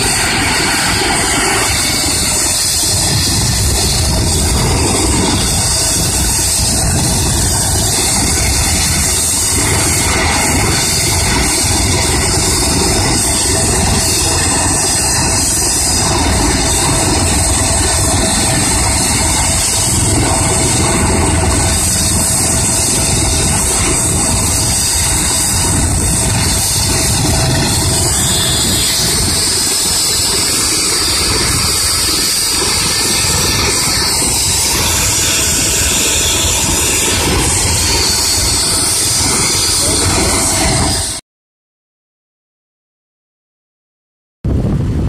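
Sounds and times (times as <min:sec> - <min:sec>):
helicopter turbine whine: 0:00.0 - 0:41.2
low rumble: 0:00.0 - 0:41.2.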